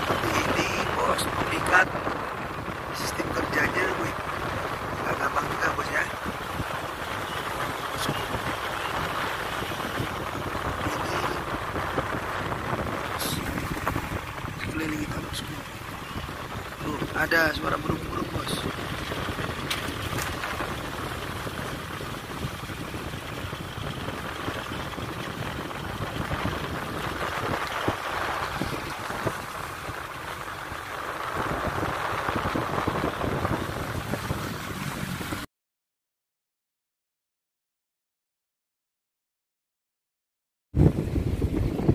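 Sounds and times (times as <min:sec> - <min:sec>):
road and engine noise in car: 0:00.0 - 0:35.5.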